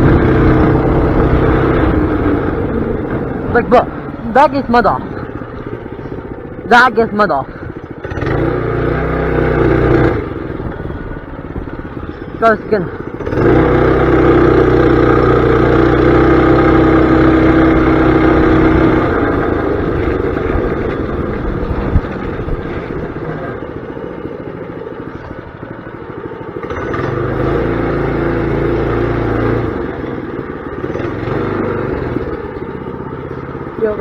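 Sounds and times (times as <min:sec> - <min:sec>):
mini bike engine running: 0:00.0 - 0:34.0.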